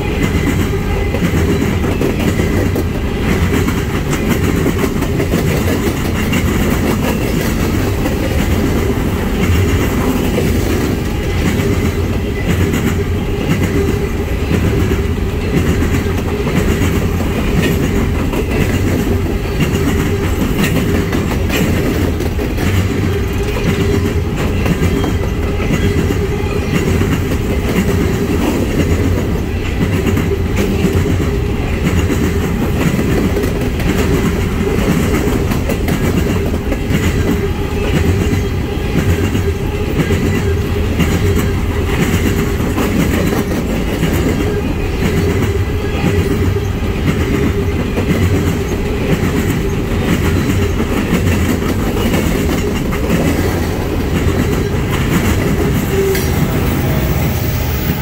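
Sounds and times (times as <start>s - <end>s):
train cars rumbling past: 0.0s - 58.0s
wheels clattering over rail joints: 0.0s - 58.0s.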